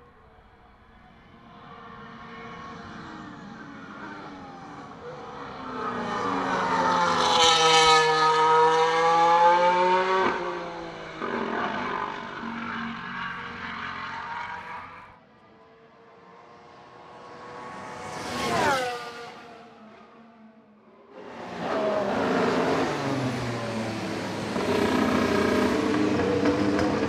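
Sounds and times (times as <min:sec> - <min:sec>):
racing car engine passing: 0:01.8 - 0:15.2, 0:16.2 - 0:20.5, 0:21.1 - 0:27.0.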